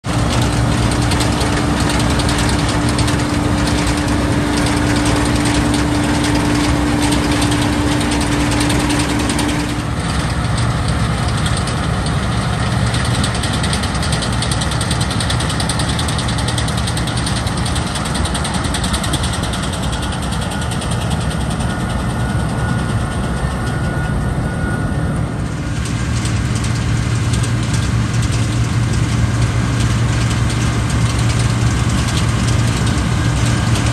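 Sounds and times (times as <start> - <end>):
combine harvester engine running: 0.0 - 33.9
steady hum: 0.0 - 33.9.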